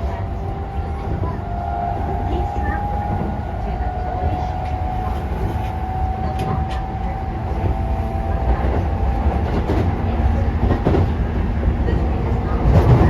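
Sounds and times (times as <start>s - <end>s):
constant train whine: 0.0s - 13.0s
train wheels rumbling on rail: 0.0s - 13.0s.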